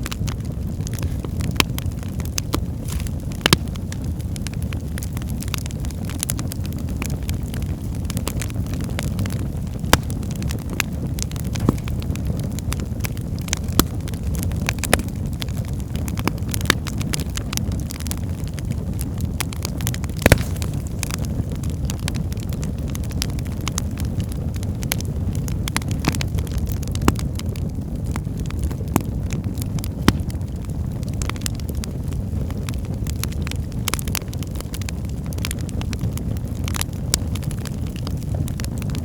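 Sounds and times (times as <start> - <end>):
fire flames rumbling: 0.0 - 39.0
wood fire crackling and popping: 0.0 - 39.0.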